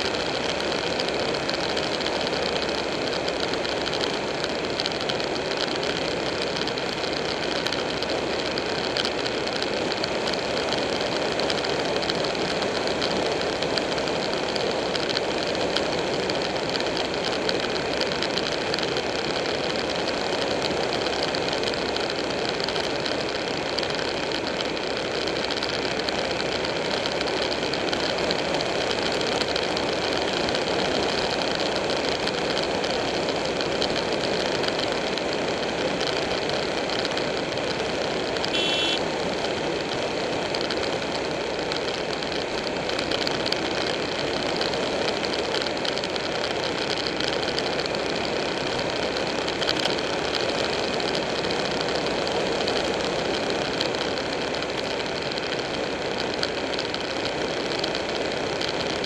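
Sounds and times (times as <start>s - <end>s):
motorcycle engine cruising: 0.0s - 58.9s
wind and road noise: 0.0s - 59.0s.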